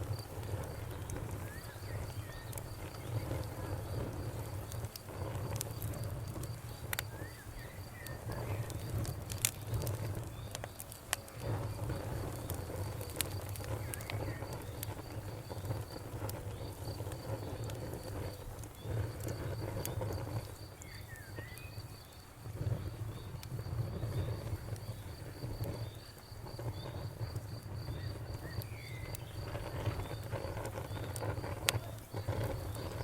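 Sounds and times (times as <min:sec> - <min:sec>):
campfire crackling and popping: 0:00.0 - 0:33.0
cricket chirping: 0:00.0 - 0:33.0.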